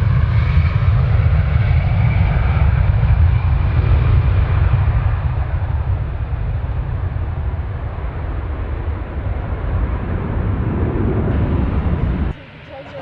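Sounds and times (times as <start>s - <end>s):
jet engine rumble and hiss: 0.0s - 13.0s.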